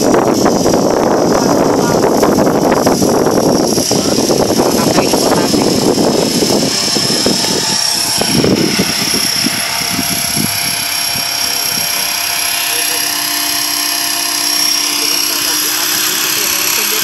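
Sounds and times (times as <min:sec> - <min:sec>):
rc helicopter whine: 0:00.0 - 0:17.0.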